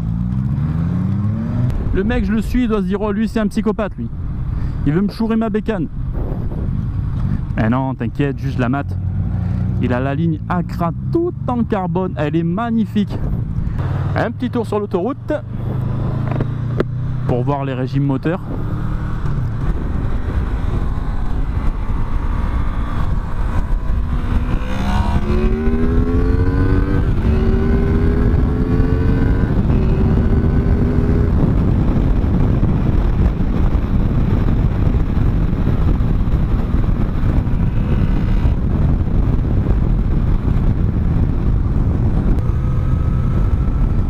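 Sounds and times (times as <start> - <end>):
motorcycle engine accelerating: 0.0 - 2.8, 8.4 - 44.0
wind and road noise: 0.0 - 44.0.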